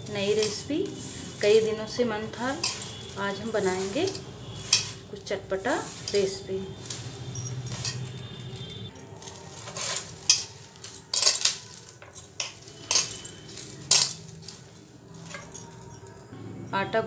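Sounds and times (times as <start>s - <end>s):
dough kneaded in metal bowl: 0.0s - 15.8s
glass bangles clinking: 0.0s - 16.3s.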